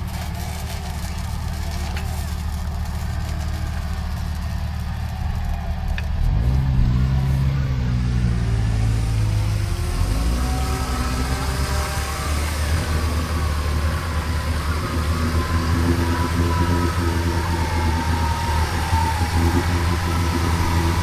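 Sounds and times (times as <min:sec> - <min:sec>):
engine running at low revs: 0:00.0 - 0:21.0
whine rising and falling: 0:00.3 - 0:21.0.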